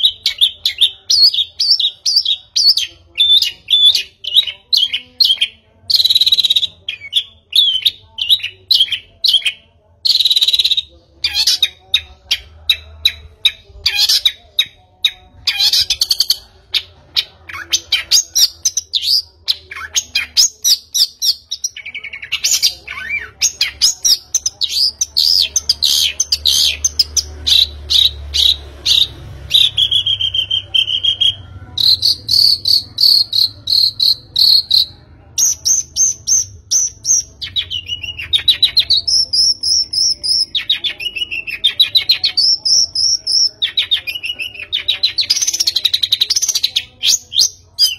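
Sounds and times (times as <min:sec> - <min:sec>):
bird chirping and twittering: 0:00.0 - 0:47.9.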